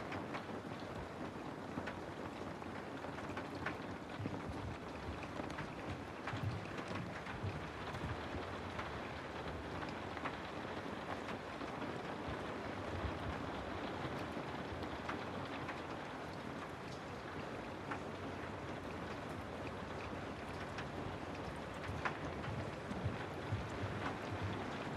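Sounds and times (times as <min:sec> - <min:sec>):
raindrops ticking: 0:00.0 - 0:24.9
steady rain hiss: 0:00.0 - 0:24.9.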